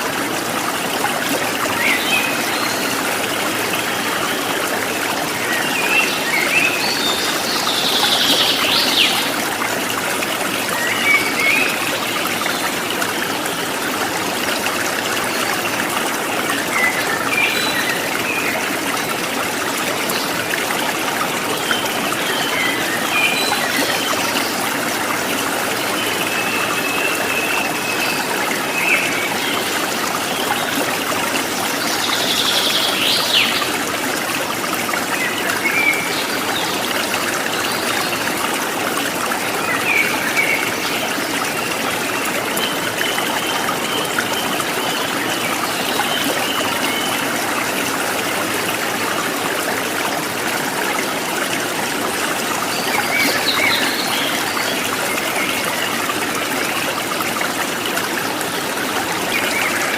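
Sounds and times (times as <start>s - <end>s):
stream trickling: 0.0s - 59.9s.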